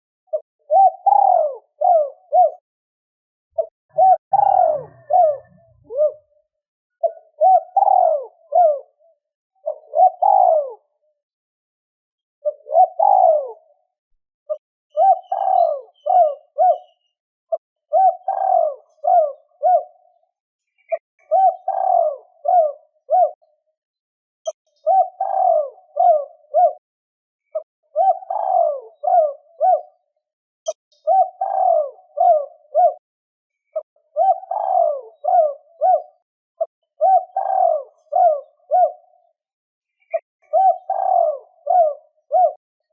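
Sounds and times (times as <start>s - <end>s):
dove cooing: 0.3s - 2.6s, 3.6s - 11.0s, 12.4s - 13.9s, 14.5s - 20.2s, 20.9s - 23.5s, 24.8s - 26.8s, 27.5s - 30.1s, 31.0s - 33.0s, 33.7s - 39.3s, 39.9s - 42.9s.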